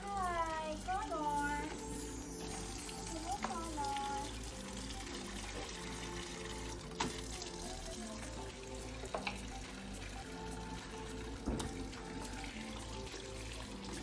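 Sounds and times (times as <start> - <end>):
background music with held notes: 0.0 - 14.0.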